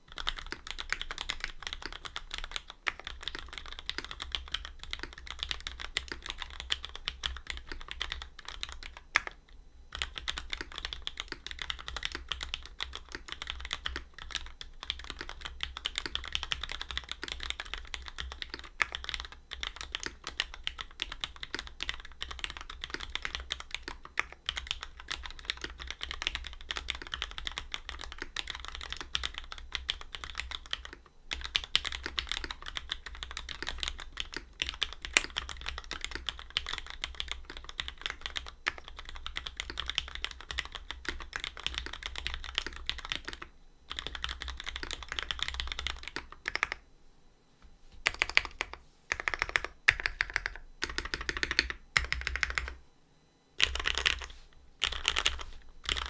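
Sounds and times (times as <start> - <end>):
fast mechanical keyboard typing: 0.0 - 46.8, 48.0 - 52.8, 53.6 - 56.0.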